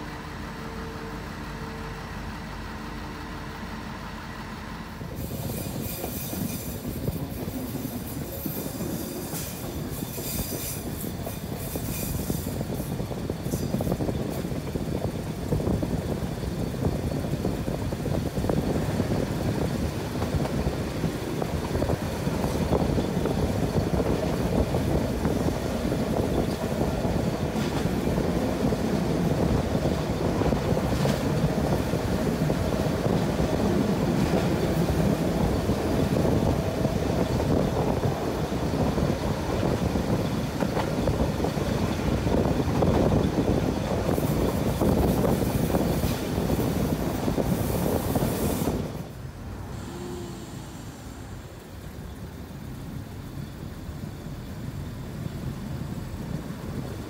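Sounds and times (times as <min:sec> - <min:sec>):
railcar rumbling along track: 0:00.0 - 0:57.0.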